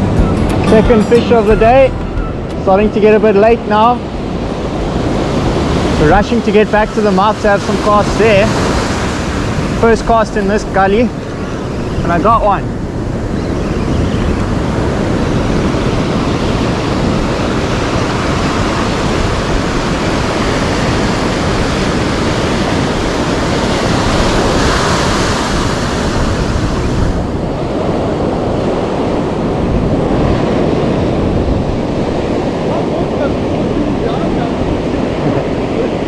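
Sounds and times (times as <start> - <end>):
wind on microphone: 0.0 - 36.0
surf breaking on beach: 2.7 - 13.4, 14.3 - 36.0.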